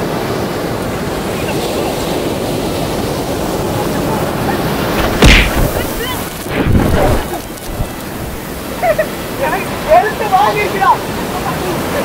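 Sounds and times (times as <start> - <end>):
sea surf rushing: 0.0 - 12.0.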